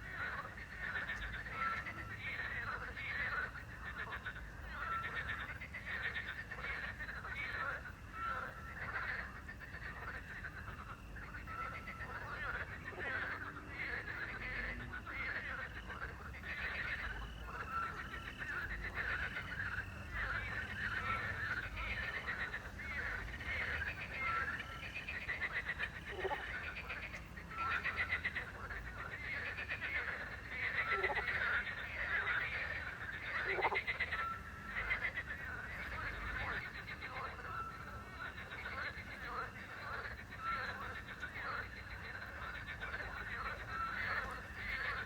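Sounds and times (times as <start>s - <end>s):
crickets chirping: 0.0s - 45.0s
frogs croaking: 0.0s - 45.0s.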